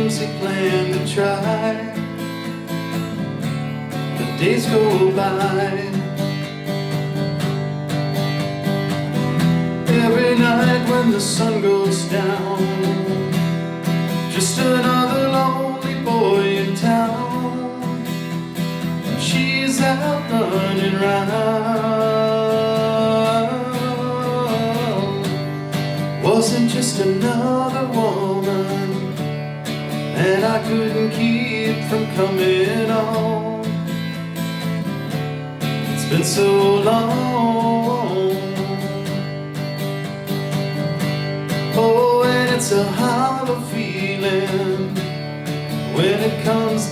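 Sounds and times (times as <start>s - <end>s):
man singing: 0.0s - 2.6s, 4.1s - 6.7s, 9.4s - 29.4s, 30.0s - 34.3s, 35.8s - 39.3s, 41.4s - 46.9s
strummed guitar: 0.0s - 46.9s.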